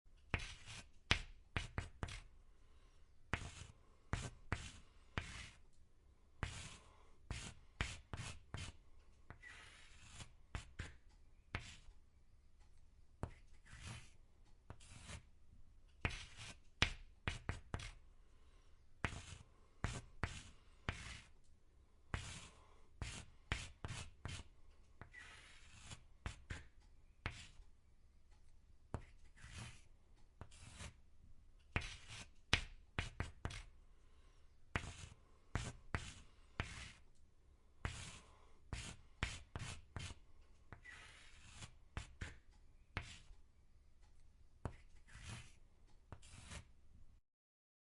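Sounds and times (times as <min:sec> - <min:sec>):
chalk scratching on chalkboard: 0:00.3 - 0:05.6, 0:06.4 - 0:11.9, 0:13.2 - 0:15.3, 0:16.0 - 0:21.4, 0:22.1 - 0:27.6, 0:28.9 - 0:31.0, 0:31.7 - 0:37.1, 0:37.8 - 0:43.3, 0:44.6 - 0:46.8.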